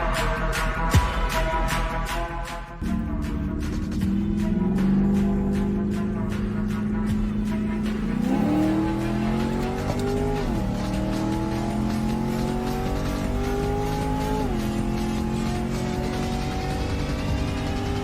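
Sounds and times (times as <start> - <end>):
car engine accelerating hard: 2.8 - 18.0.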